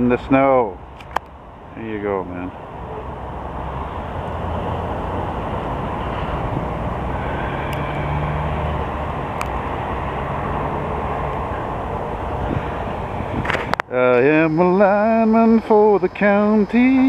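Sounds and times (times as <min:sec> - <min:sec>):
low rumble of vehicle engines: 0:00.0 - 0:17.0.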